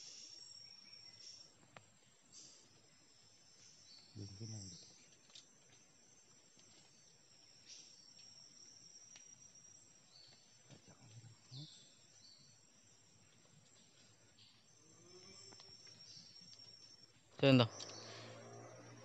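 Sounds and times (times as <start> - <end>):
faint chirps: 0.0 - 19.0
high drone of forest insects: 0.0 - 19.0.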